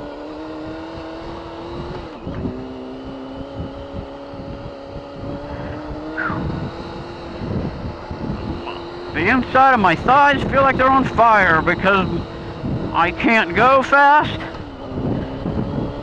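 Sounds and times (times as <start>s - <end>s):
motorcycle engine cruising: 0.0s - 16.0s
wind buffeting on microphone: 0.4s - 16.0s.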